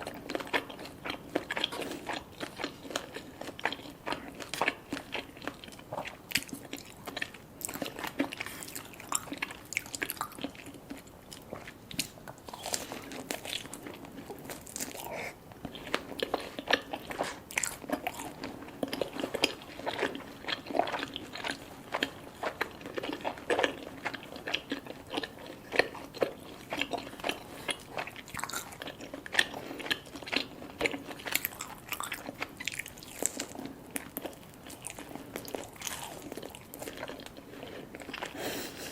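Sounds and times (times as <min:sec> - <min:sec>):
chewing crisp food: 0:00.0 - 0:38.9.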